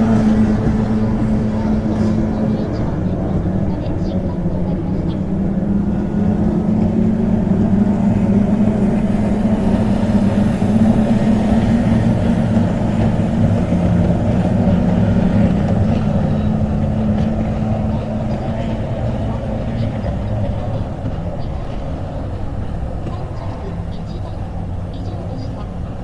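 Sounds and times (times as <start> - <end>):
motorboat engine droning: 0.0 - 26.0.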